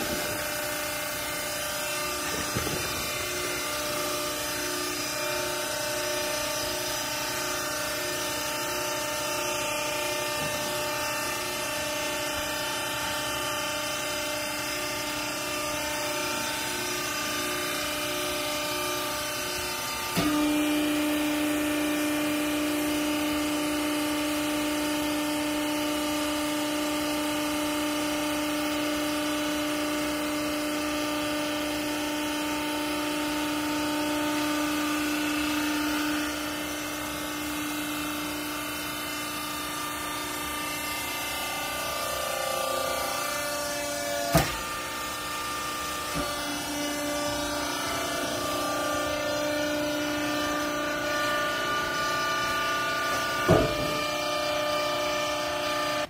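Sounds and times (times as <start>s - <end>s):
baler motor and pump humming: 0.0s - 56.0s.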